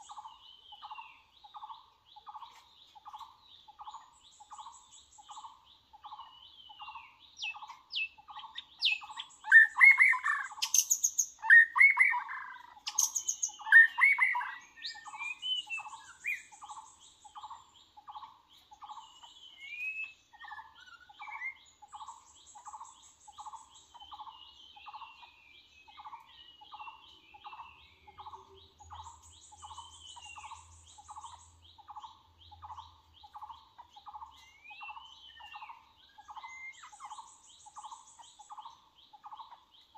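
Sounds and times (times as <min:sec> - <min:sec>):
birds singing warbling phrases: 0:00.0 - 0:39.9.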